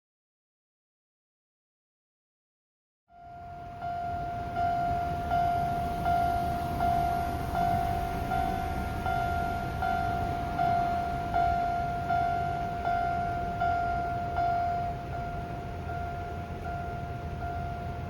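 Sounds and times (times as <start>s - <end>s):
level crossing alarm ringing: 3.1s - 18.0s.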